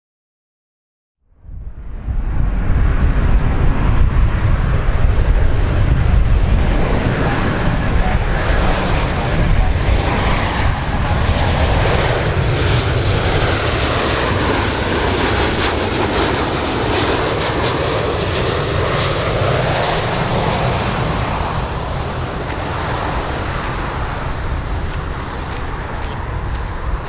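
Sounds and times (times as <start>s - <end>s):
jet engine noise: 1.4s - 27.0s.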